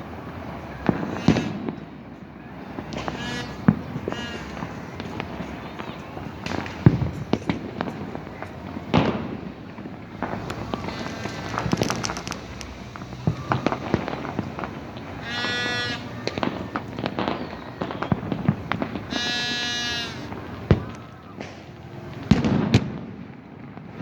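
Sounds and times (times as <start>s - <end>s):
firecrackers bangs and crackles: 0.0s - 24.0s.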